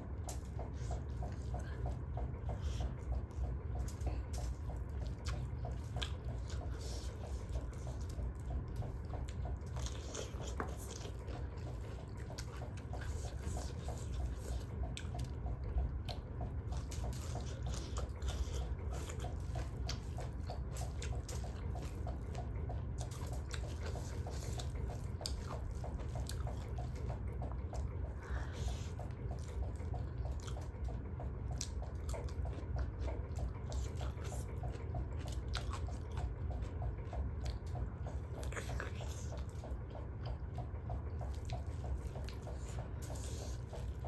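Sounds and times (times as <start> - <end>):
person chewing and smacking: 0.0 - 44.0
steady low hum: 0.0 - 44.0.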